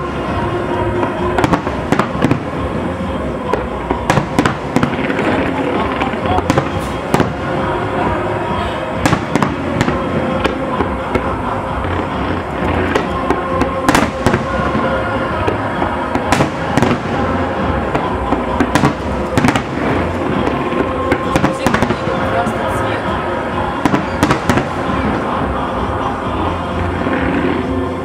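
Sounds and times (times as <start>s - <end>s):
firework crackle: 0.0s - 28.0s.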